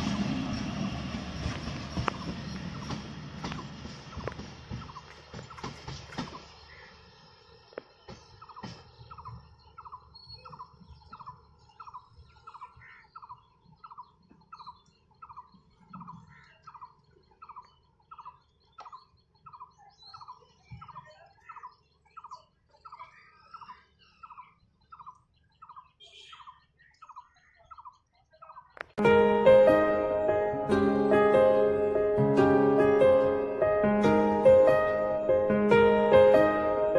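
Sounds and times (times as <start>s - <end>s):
small birds chirping: 0.6s - 36.9s.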